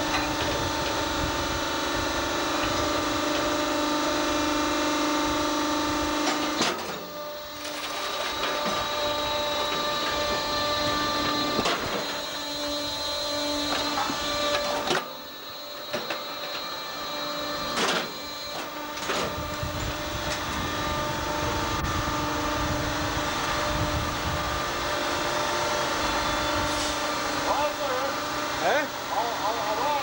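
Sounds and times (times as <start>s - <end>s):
hydraulic probe whining: 0.0s - 30.0s.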